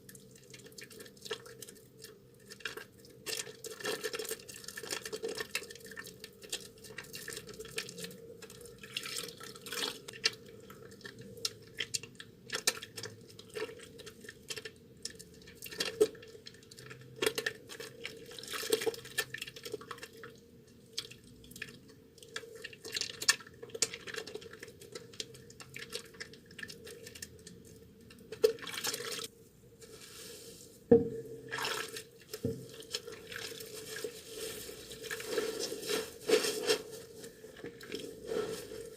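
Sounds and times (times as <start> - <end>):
wet soap squishing: 0.0 - 30.2, 31.4 - 38.9.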